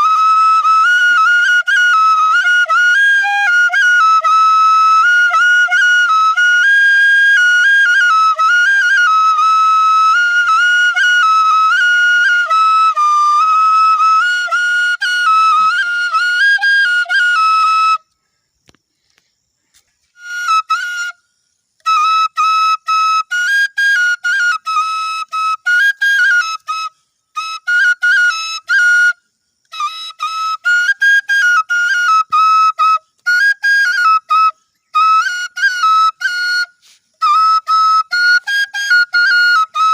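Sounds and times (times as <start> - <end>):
bamboo flute melody: 0.0 - 18.2, 19.1 - 39.9.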